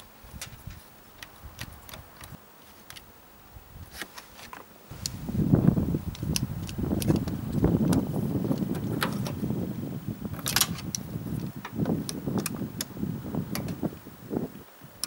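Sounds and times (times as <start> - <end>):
heater blower fan rushing hum: 0.0 - 15.0.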